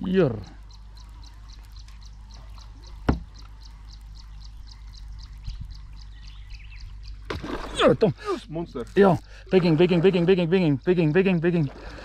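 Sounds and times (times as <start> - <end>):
insect chirping: 0.0 - 12.0
low steady hum: 0.0 - 12.0.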